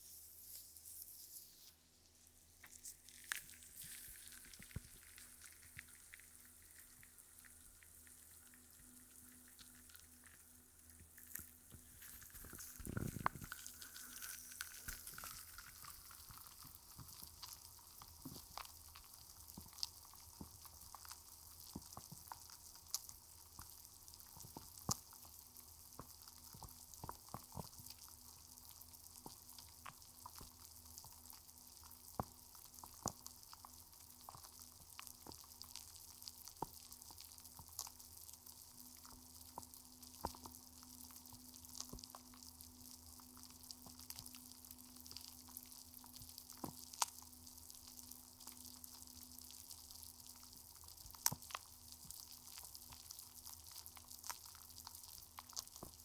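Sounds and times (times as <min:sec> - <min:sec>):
fizzing bubbles popping: 0:02.7 - 0:56.0.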